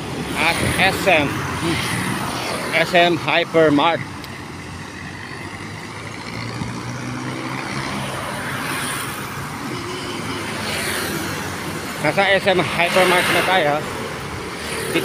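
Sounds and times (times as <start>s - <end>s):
vehicles passing on street: 0.0s - 15.0s.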